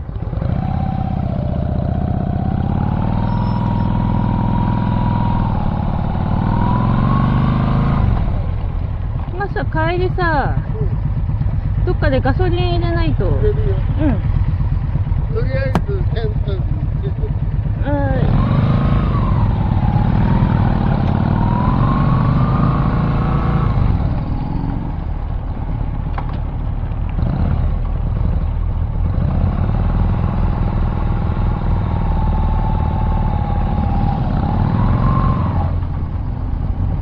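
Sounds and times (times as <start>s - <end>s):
low road rumble: 0.0s - 37.0s
vehicle engine running: 0.0s - 37.0s.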